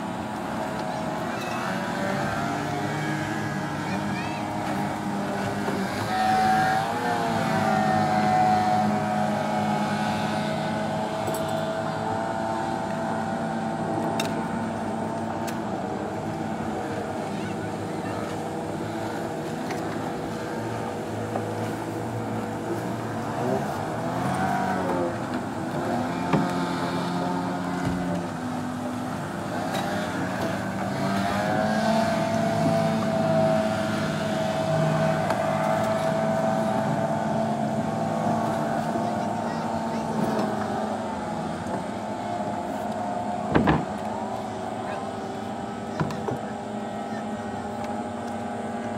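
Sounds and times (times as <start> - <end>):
racing boat outboard motors: 0.0 - 48.9.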